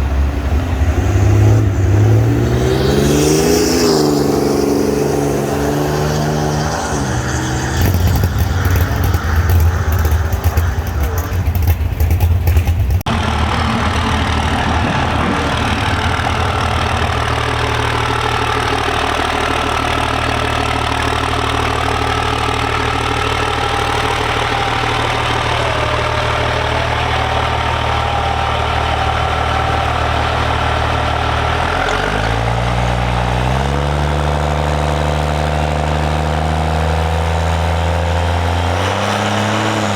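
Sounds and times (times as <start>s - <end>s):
loud rough engine noise: 0.0s - 39.9s
vehicle engine revving and idling: 0.0s - 39.9s.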